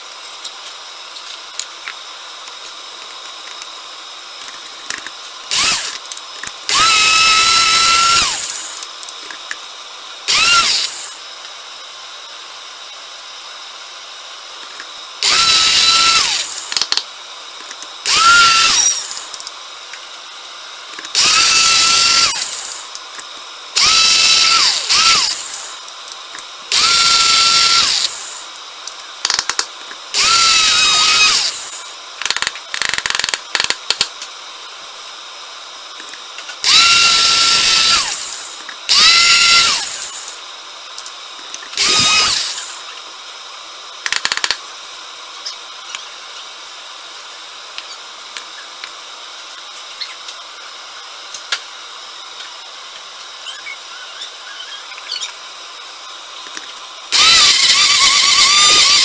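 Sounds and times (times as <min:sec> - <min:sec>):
blender motor whine: 0:00.0 - 0:34.4, 0:35.6 - 0:59.0.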